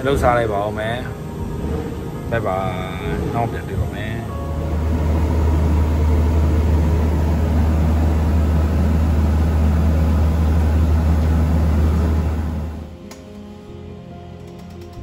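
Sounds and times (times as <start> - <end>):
heavy factory machinery humming: 0.0 - 13.2.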